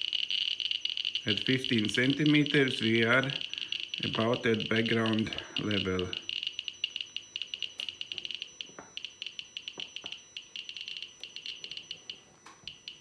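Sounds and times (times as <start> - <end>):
geiger counter clicking: 0.0 - 13.0.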